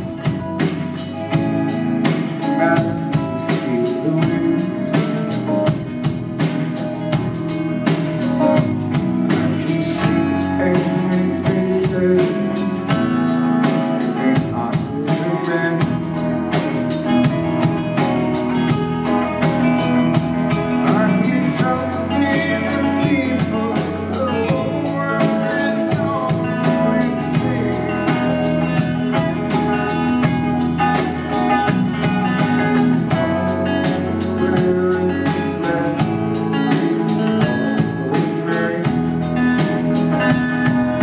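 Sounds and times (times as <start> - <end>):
person singing: 0.0 - 7.6, 8.3 - 17.4, 19.7 - 41.0
acoustic guitar: 0.0 - 41.0
drum kit steady beat: 0.0 - 41.0
electric guitars: 0.0 - 41.0.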